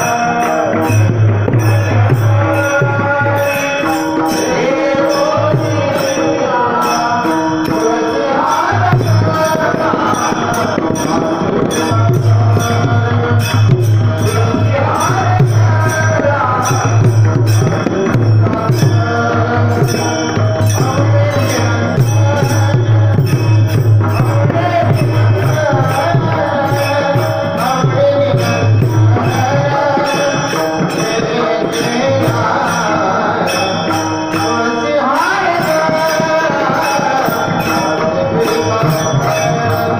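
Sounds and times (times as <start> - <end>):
percussion beat: 0.0 - 39.9
person singing devotional song: 0.0 - 39.9.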